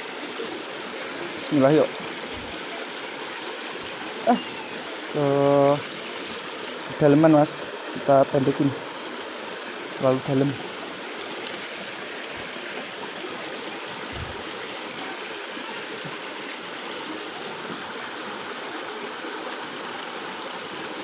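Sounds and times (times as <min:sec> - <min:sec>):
water rushing over stones: 0:00.0 - 0:21.0.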